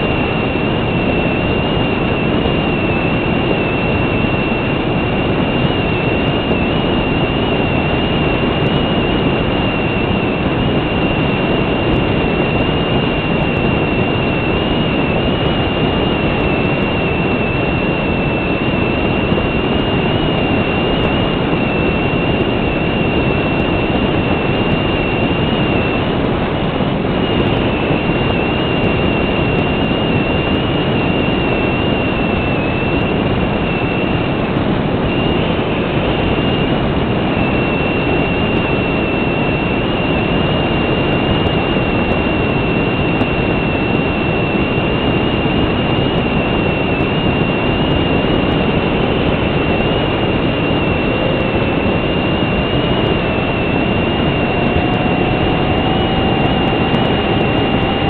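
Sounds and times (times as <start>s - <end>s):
electric motor whine: 0.0s - 58.0s.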